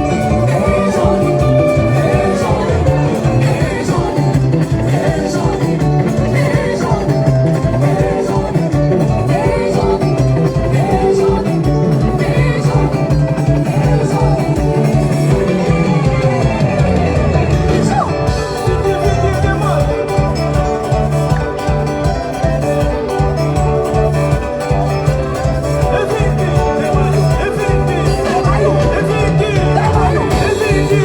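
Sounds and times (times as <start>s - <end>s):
bass guitar: 0.0s - 31.0s
electric guitar: 0.0s - 31.0s
person singing: 0.0s - 31.0s
steady drum beat: 0.0s - 31.0s.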